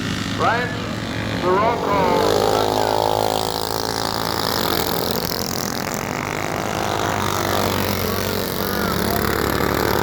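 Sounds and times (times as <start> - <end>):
minibike engines at high revs: 0.0 - 10.0.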